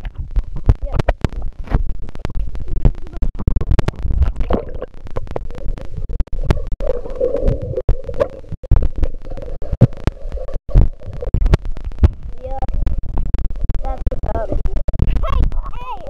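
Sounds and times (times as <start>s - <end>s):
muffled underwater rumbling: 0.0s - 16.0s.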